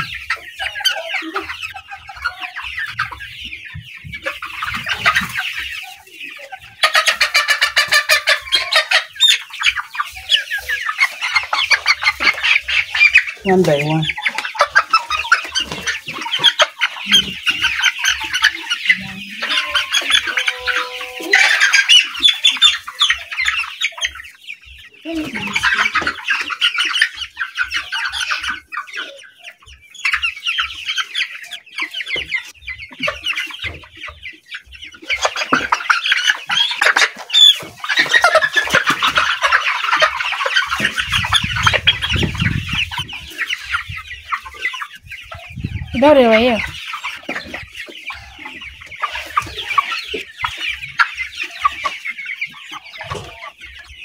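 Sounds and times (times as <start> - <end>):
chickens clucking and squawking: 0.0 - 54.0.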